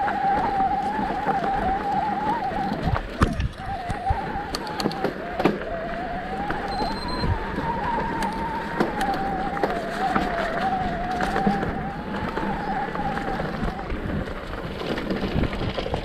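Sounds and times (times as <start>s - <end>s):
bicycle wheels whining: 0.0s - 16.0s
bike knocking and rattling: 0.0s - 16.0s.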